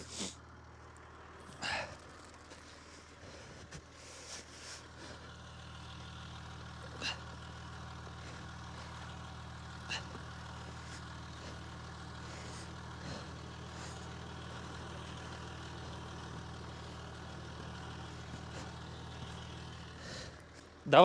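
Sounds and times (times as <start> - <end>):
diesel car engine idling: 0.0 - 21.0.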